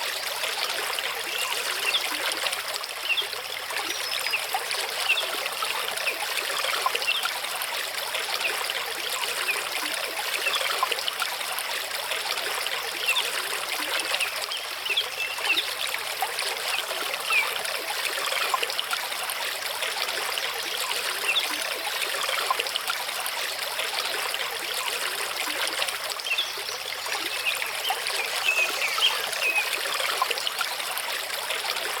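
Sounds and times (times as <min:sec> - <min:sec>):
stream running over rocks: 0:00.0 - 0:32.0.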